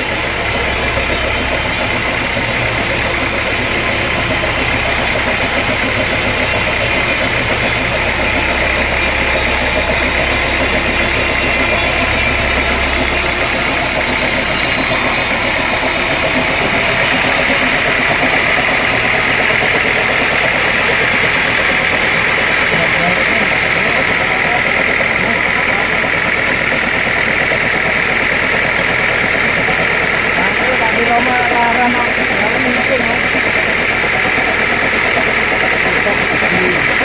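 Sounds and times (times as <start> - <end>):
low hum: 0.0 - 37.0
sawmill machinery drone: 0.0 - 37.0.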